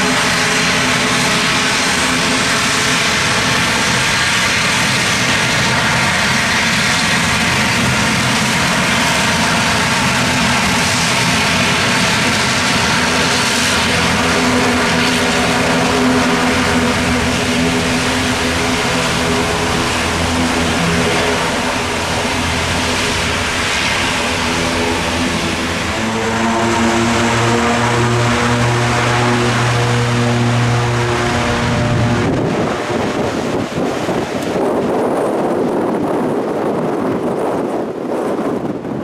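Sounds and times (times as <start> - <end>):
aircraft turbine engines running: 0.0 - 39.0.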